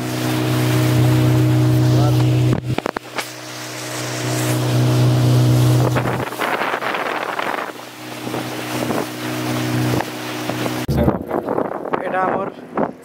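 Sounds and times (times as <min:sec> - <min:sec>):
rush of water and wind: 0:00.0 - 0:13.0
speedboat engine drone: 0:00.0 - 0:13.0.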